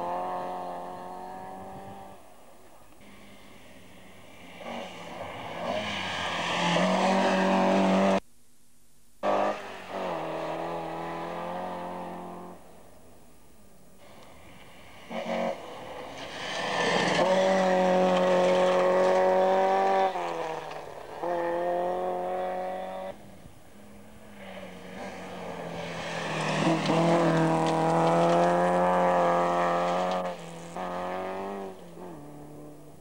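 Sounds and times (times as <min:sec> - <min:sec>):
rally car engine revving: 0:00.0 - 0:02.2, 0:03.0 - 0:08.2, 0:09.2 - 0:12.7, 0:14.0 - 0:33.0.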